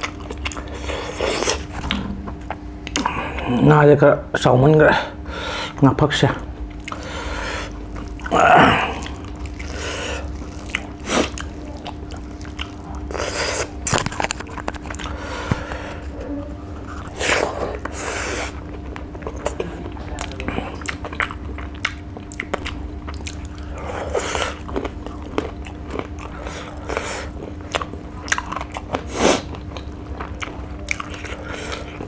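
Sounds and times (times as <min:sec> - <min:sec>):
wet chewing and lip-smacking: 0:00.0 - 0:03.1, 0:06.7 - 0:32.0
faint steady hum: 0:00.0 - 0:32.0.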